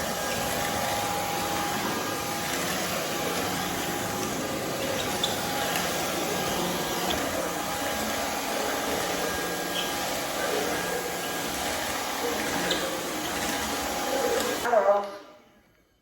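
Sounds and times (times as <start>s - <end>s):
floor vacuum motor whirring: 0.0s - 16.0s.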